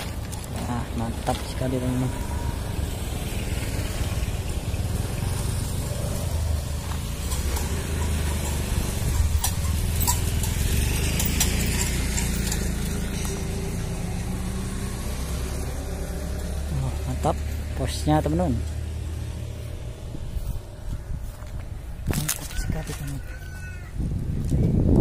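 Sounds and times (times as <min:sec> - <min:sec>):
motor scooter rumble: 0:00.0 - 0:25.0.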